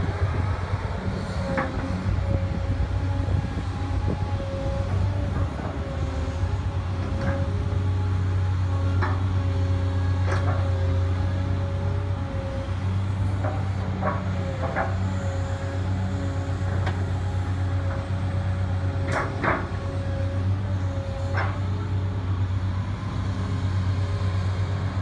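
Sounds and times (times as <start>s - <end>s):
steady whining tone: 0.0s - 24.0s
diesel engine running: 0.0s - 25.0s.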